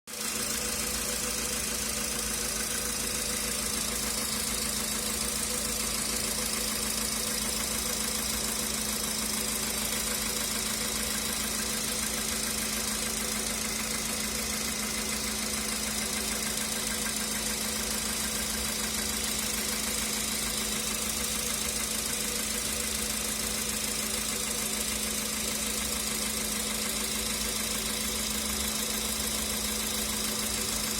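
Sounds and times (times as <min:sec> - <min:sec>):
car engine idling with knock: 0:00.1 - 0:30.9.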